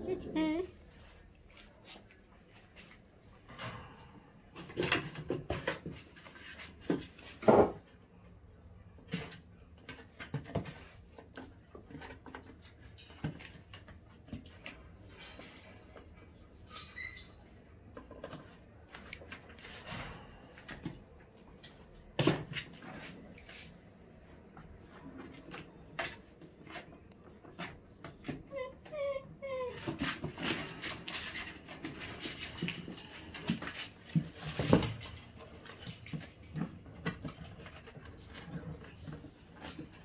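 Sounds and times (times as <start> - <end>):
puppies knocking and scuffling: 0.0 - 8.1, 8.9 - 23.7, 24.4 - 40.0.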